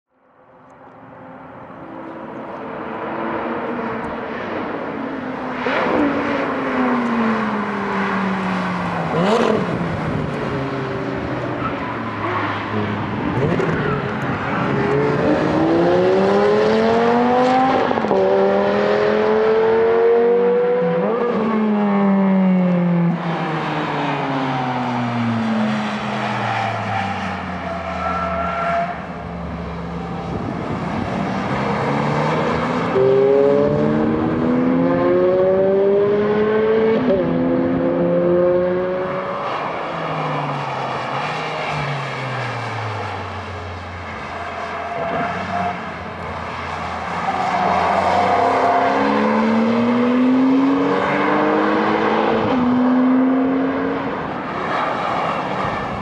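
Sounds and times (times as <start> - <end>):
sports car engines racing: 0.5 - 56.0.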